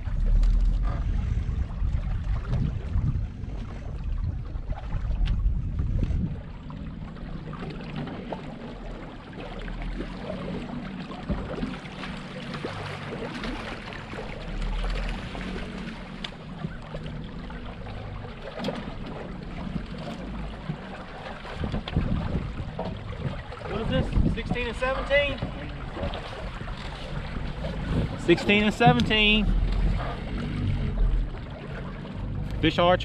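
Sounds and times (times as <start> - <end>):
water trickling against boat: 0.0 - 33.0.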